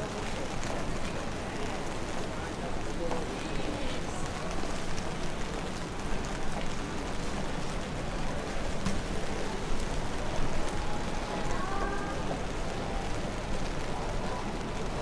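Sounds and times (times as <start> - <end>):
raindrops ticking close by: 0.0 - 15.0
steady rain falling: 0.0 - 15.0.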